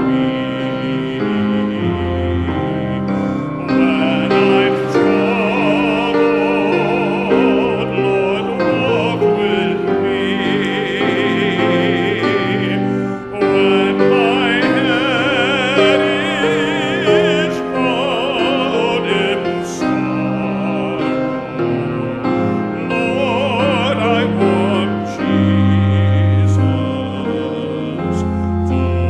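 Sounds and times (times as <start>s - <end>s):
sustained keyboard accompaniment: 0.0s - 29.0s
voices singing with vibrato: 0.0s - 29.0s.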